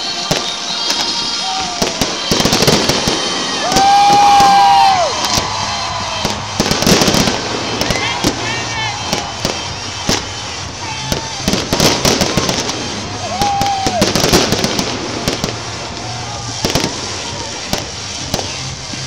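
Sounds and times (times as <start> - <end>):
fireworks bangs and crackling: 0.0 - 19.0
fireworks whistling: 0.0 - 19.0.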